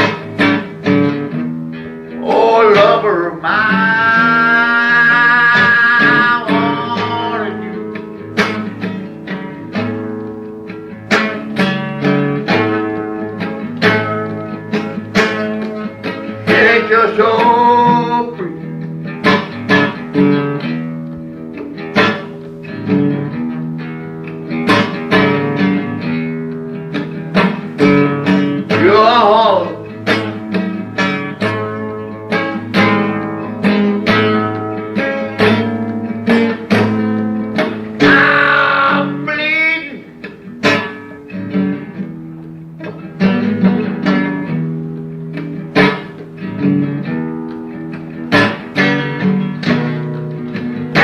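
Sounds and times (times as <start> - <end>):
blues guitar playing: 0.0 - 51.0.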